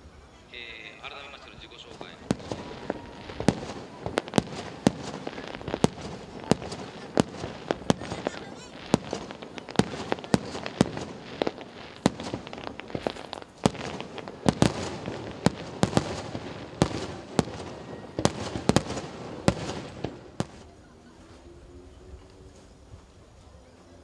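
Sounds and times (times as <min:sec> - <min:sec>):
fireworks bangs: 0:00.0 - 0:21.5
fireworks crackling hiss: 0:00.0 - 0:24.0.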